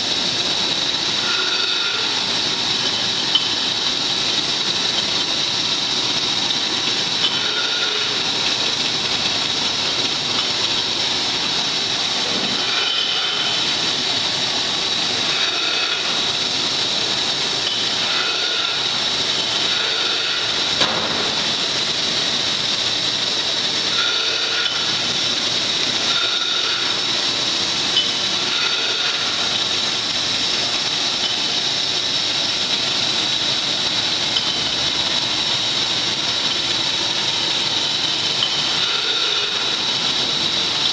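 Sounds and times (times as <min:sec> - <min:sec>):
high machine whine: 0:00.0 - 0:40.9
loud air hiss: 0:00.0 - 0:40.9
plastic chain conveyor noise: 0:00.0 - 0:40.9.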